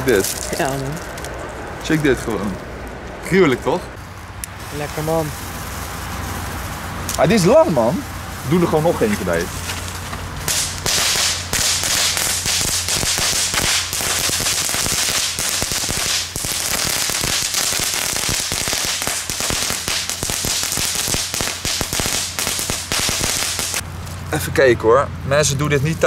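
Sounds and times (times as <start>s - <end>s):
crackling firework: 0.0s - 2.5s, 4.0s - 24.3s.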